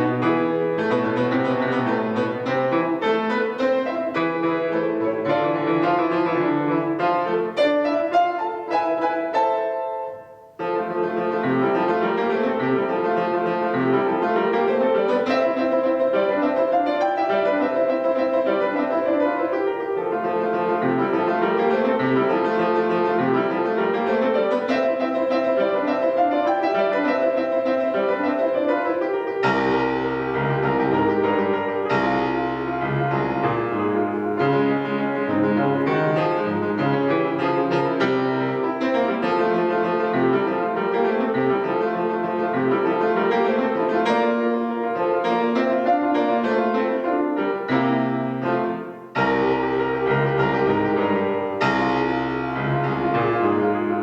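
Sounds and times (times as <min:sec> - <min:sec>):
lively classical piano piece: 0:00.0 - 0:54.0.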